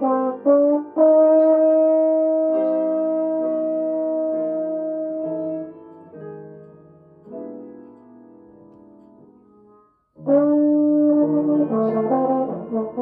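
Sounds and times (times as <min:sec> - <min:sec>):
soft jazz piano chords: 0:00.0 - 0:13.0.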